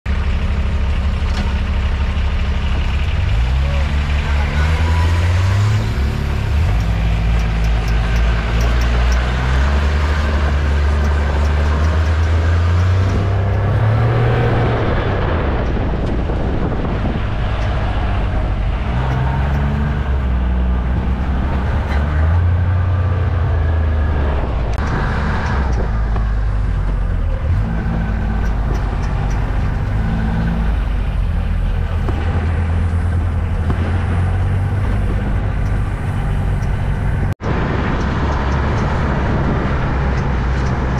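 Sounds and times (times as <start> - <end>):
utility vehicle engine running: 0.1 - 40.9.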